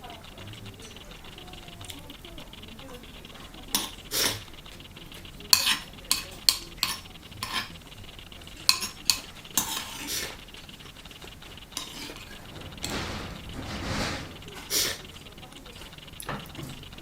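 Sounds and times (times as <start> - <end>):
stirring in pot: 0.0 - 17.0
utensils clicking on pot: 0.0 - 17.0.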